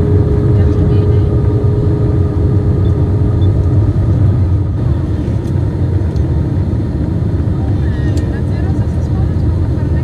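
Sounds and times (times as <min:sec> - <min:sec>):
airplane cabin engine rumble: 0:00.0 - 0:10.0
faint hum: 0:00.0 - 0:10.0.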